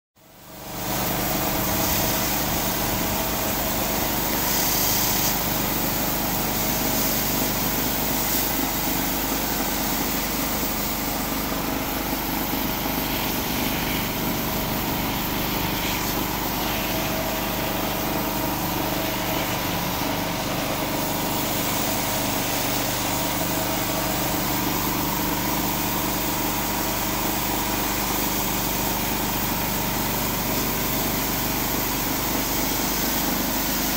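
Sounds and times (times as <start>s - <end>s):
pressure washer running: 0.2s - 33.9s
water jets hissing on concrete: 0.3s - 33.9s.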